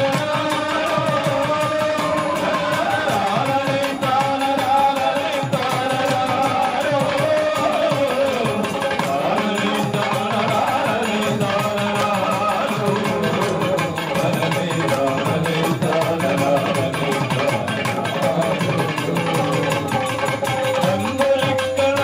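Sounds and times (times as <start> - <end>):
hand drums: 0.0 - 22.0
voices singing folk melody: 0.0 - 22.0.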